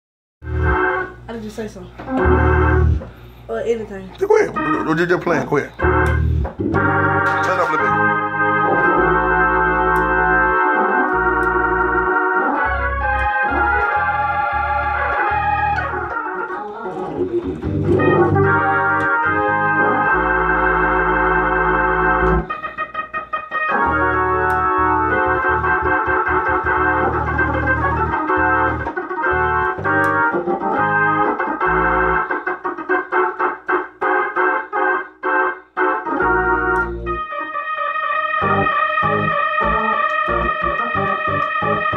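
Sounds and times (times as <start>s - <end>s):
drawbar organ chords: 0.4s - 1.3s, 2.0s - 3.5s, 4.2s - 41.9s.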